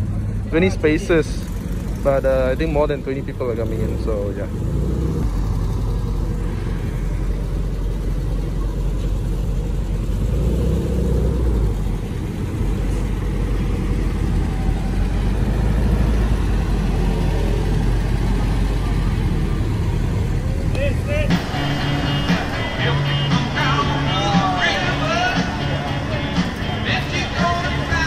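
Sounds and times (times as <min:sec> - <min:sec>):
bus engine rumbling at low revs: 0:00.0 - 0:28.0.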